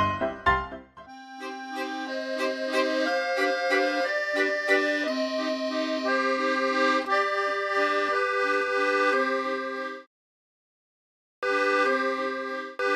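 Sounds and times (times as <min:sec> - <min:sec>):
accordion music: 0:00.0 - 0:10.1, 0:11.4 - 0:12.9.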